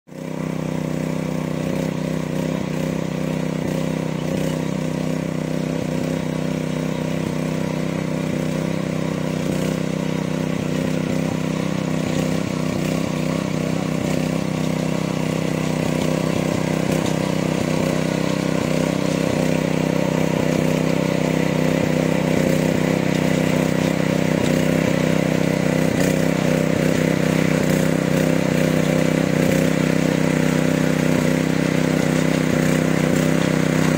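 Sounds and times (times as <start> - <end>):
power weeder engine running: 0.1 - 33.9.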